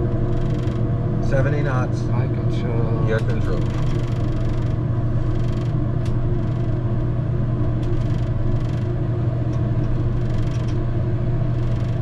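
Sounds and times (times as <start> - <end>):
turboprop engines drone: 0.0 - 12.0.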